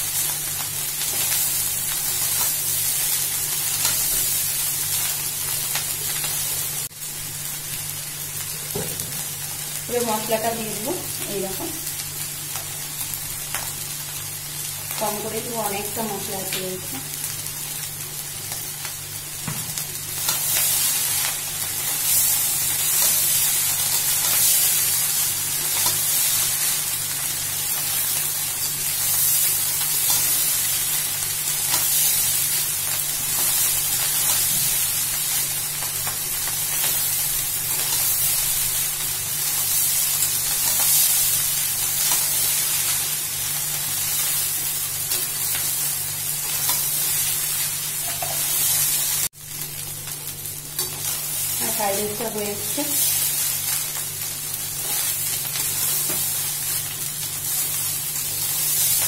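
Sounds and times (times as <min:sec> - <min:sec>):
rice sizzling in a pan: 0:00.0 - 0:59.0.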